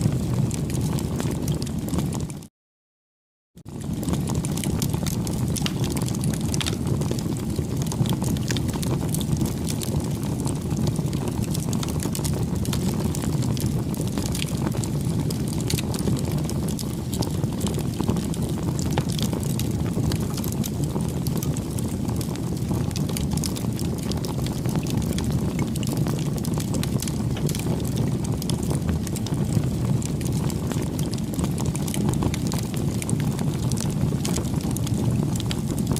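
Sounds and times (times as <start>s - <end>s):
burning wood crackling and popping: 0.0s - 2.4s, 3.6s - 35.9s
low rush of flame: 0.0s - 2.4s, 3.6s - 35.9s.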